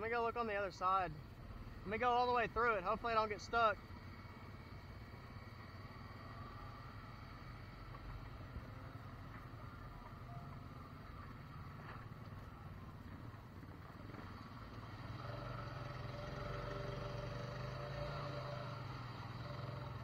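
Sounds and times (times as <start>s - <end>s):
utility vehicle engine approaching: 0.6s - 20.0s
quad engine running: 1.7s - 20.0s.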